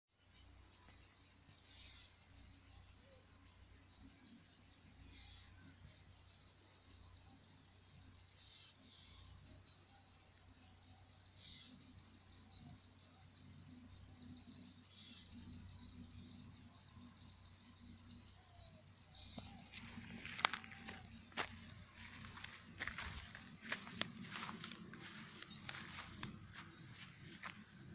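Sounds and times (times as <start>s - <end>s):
insect chirps: 0.1s - 27.9s
crickets droning: 0.2s - 27.9s.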